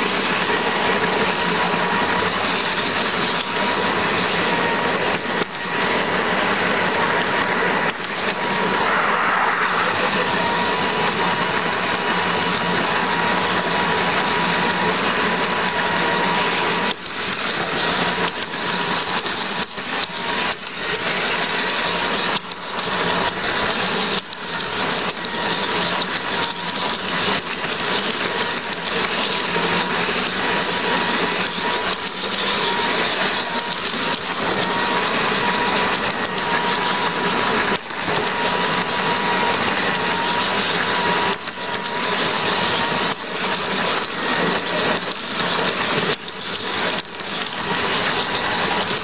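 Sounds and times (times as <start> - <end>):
model train motor whine: 0.0 - 49.0
train wheels running on track: 0.0 - 49.0.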